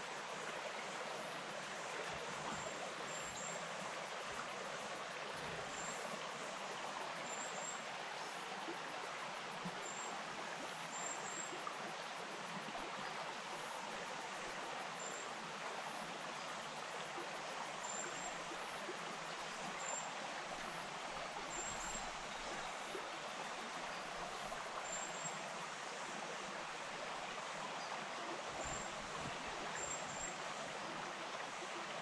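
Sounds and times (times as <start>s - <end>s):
stream flowing over stones: 0.0s - 32.0s.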